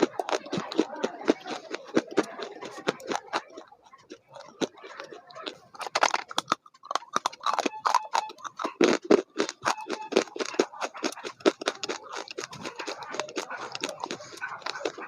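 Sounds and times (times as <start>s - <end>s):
eating crunches and clicks: 0.0s - 15.0s.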